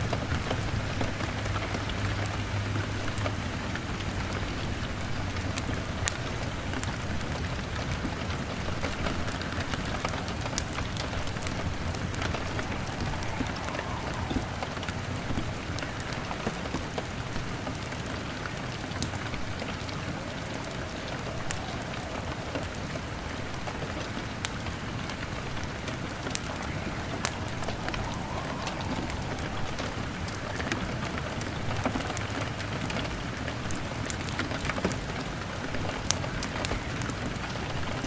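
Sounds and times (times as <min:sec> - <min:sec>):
rain on a window: 0:00.0 - 0:38.0
log fire crackling and popping: 0:00.1 - 0:38.0.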